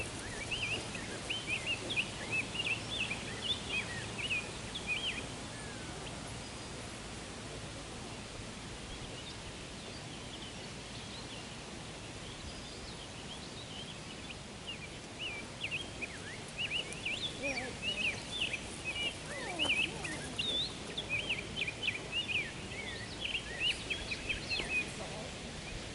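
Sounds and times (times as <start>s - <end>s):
birds chirping: 0.0s - 25.9s
outdoor background noise: 0.0s - 25.9s.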